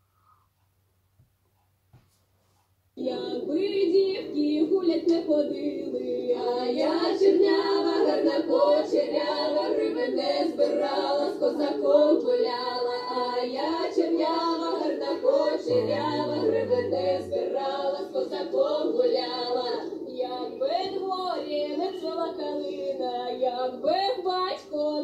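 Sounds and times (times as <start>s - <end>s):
women singing a cappella: 3.0s - 25.0s.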